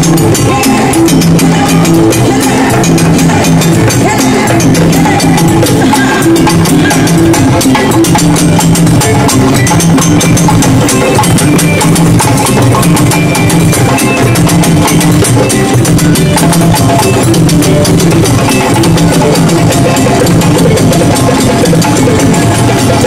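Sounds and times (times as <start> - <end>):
hand drums playing fast rhythm: 0.0 - 23.0.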